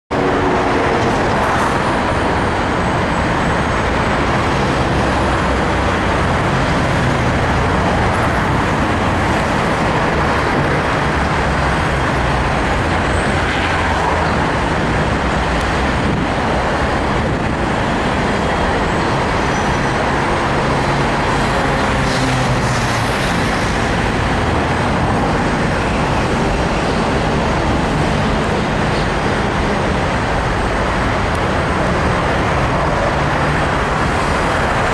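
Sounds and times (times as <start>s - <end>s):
road traffic noise: 0.1s - 34.9s.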